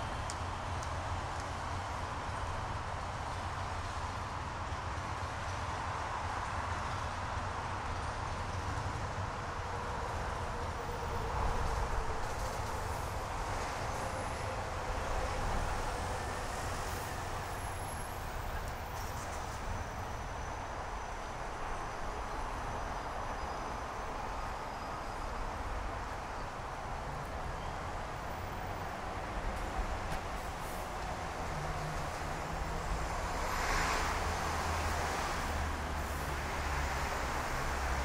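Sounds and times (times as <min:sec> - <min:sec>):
passing traffic rumble and hiss: 0:00.0 - 0:38.0.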